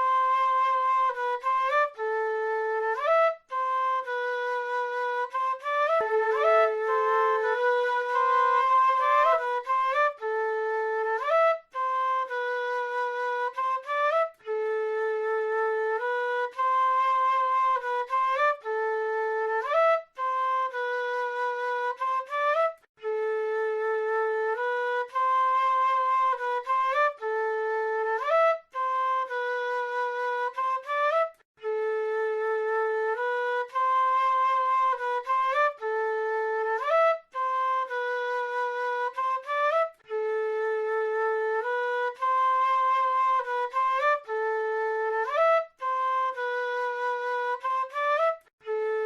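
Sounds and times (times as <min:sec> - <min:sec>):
solo flute melody: 0:00.0 - 0:49.0.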